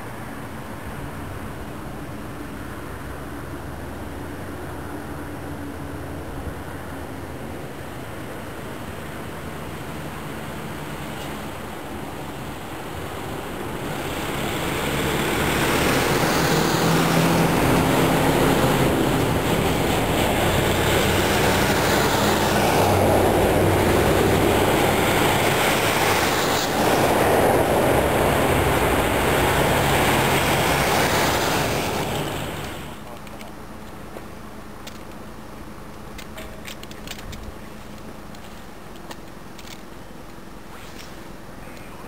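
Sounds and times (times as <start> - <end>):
diesel truck engine drone: 0.0 - 42.0.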